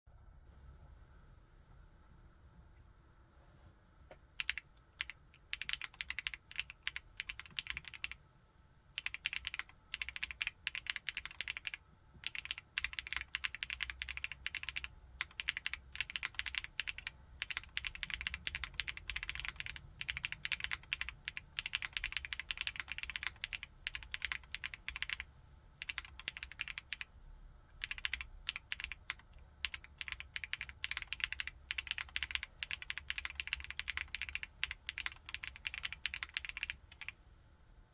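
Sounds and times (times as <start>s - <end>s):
typing on mechanical keyboard: 4.4s - 8.2s, 9.0s - 25.2s, 25.8s - 27.1s, 27.8s - 37.1s.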